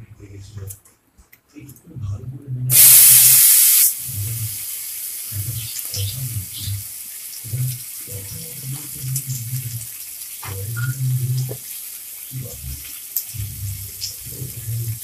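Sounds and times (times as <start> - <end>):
tomatoes sizzling in hot oil: 2.7 - 15.0.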